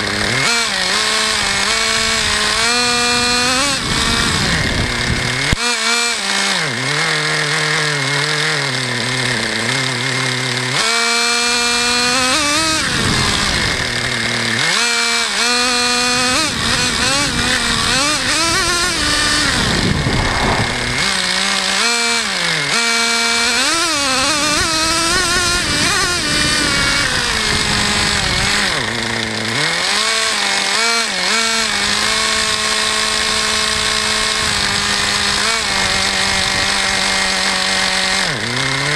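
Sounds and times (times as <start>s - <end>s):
small nitro engine revving: 0.0s - 38.9s.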